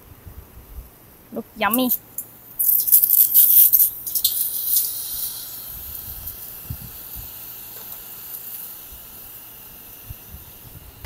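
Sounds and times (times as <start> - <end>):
squid sizzling on a grill: 1.6 - 11.0.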